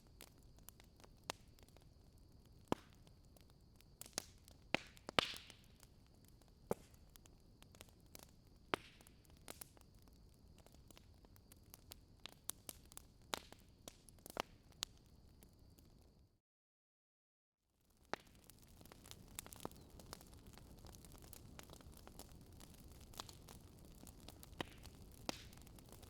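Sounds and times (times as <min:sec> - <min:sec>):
wood fire crackling: 0:00.0 - 0:16.1, 0:17.9 - 0:26.0.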